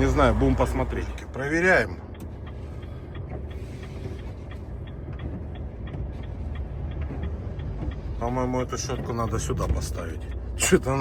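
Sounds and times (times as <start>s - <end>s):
truck engine idling: 0.0s - 11.0s
windscreen wipers ticking: 0.0s - 11.0s.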